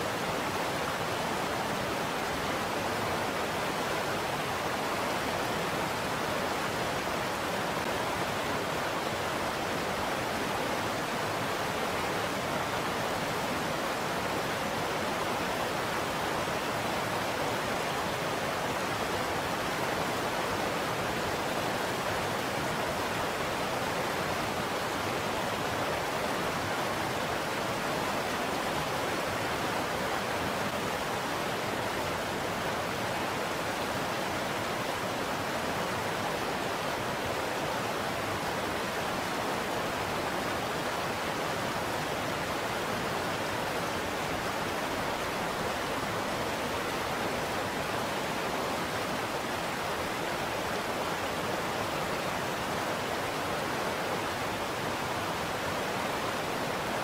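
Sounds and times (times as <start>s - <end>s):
river water rushing over rocks: 0.0s - 57.0s.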